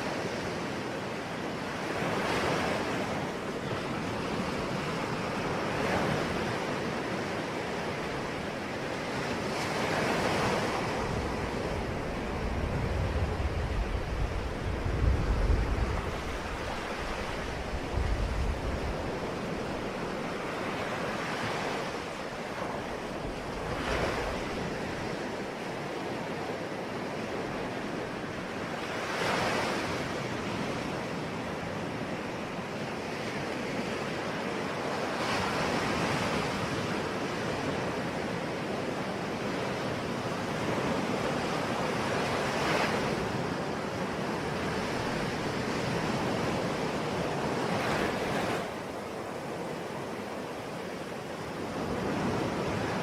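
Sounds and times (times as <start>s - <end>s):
waves breaking: 0.0s - 53.0s.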